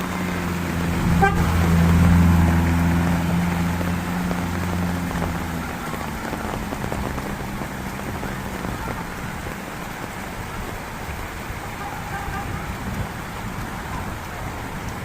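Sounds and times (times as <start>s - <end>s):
heavy rain pouring: 0.0s - 15.0s
passing vehicle engine hum: 0.0s - 15.0s.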